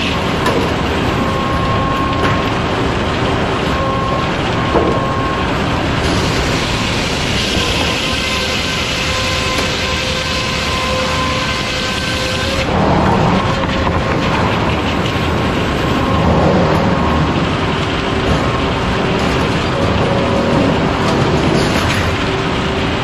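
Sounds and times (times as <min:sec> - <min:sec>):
circular saw whine: 0:00.0 - 0:23.0
sawmill machinery running: 0:00.0 - 0:23.0.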